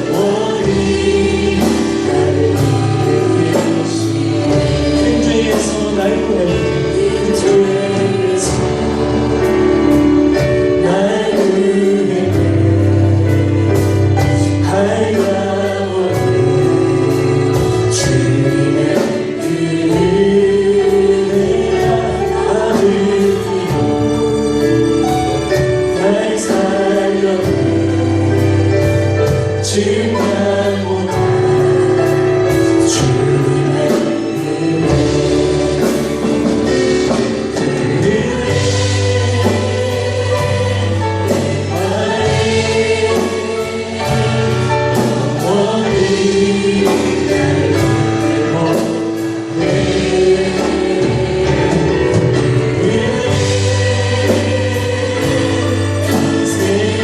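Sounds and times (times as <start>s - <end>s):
choir singing with band: 0.0s - 57.0s.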